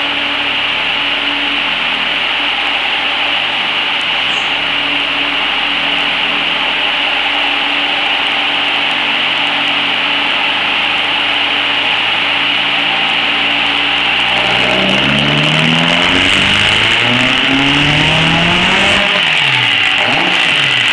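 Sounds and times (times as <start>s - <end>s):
car engine revving under load: 0.0s - 20.9s
steady high rush: 0.0s - 20.9s.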